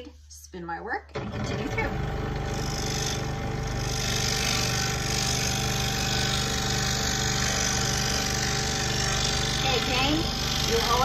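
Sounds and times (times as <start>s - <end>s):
scroll saw cutting wood: 1.5s - 11.0s.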